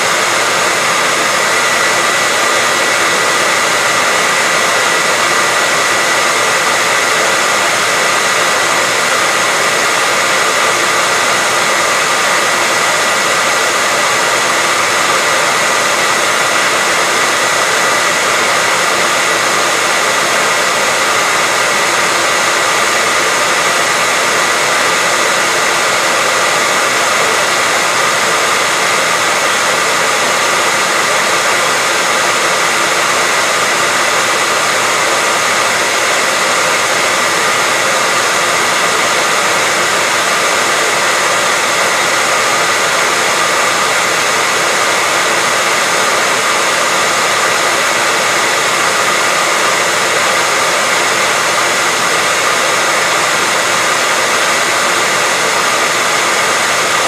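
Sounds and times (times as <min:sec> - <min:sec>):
hair dryer blowing air: 0:00.0 - 0:57.0.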